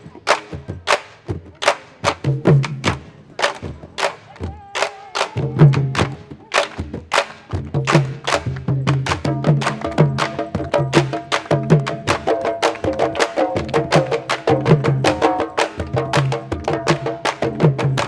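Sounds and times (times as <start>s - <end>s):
drums playing together: 0.0s - 18.0s.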